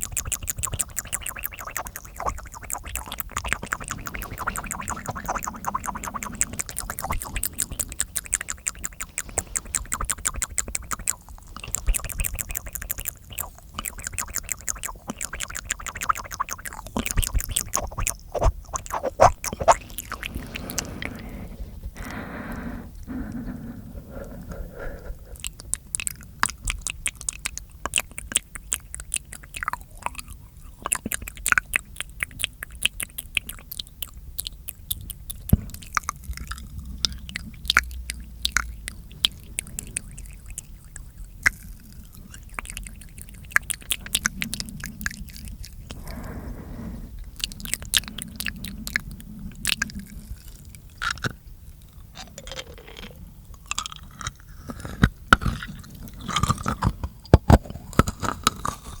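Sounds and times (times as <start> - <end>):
wet mouth clicks and smacks: 0.0 - 21.4, 25.3 - 46.3, 47.3 - 59.0.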